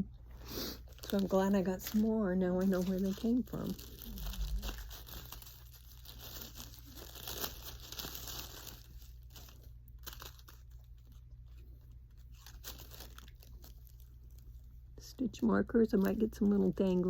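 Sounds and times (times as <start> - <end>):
packaging crinkling and tearing: 0.6 - 14.8.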